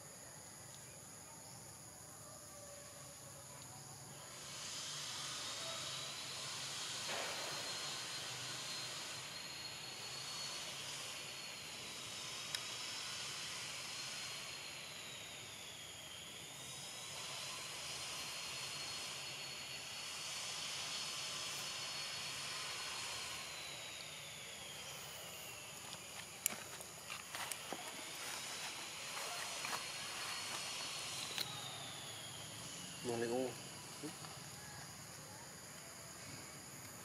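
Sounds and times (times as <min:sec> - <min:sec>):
insect chorus hiss: 0:00.0 - 0:37.0
thin high insect whine: 0:00.0 - 0:37.0.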